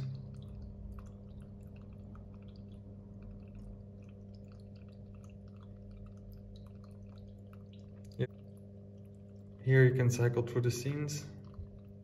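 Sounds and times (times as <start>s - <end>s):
fountain pump hum: 0.0s - 12.0s
water trickling and dripping: 0.0s - 12.0s.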